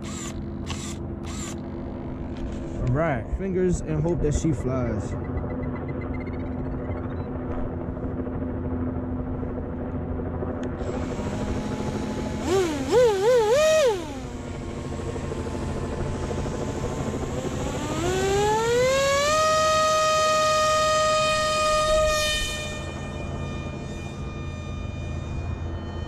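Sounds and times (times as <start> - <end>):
electric motor propeller whine: 0.0 - 26.0
low steady hum: 0.0 - 26.0.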